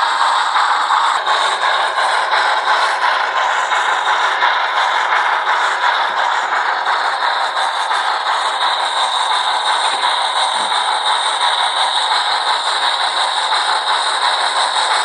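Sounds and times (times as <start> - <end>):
model train steam sound from speaker: 0.0 - 15.0.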